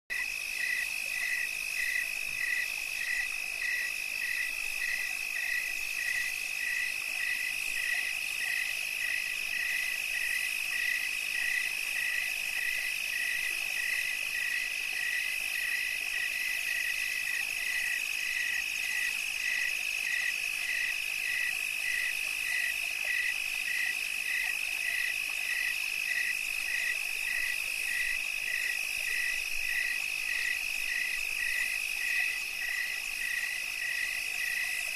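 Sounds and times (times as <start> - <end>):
insect chirping evenly: 0.1 - 34.9
insects trilling: 0.1 - 34.9.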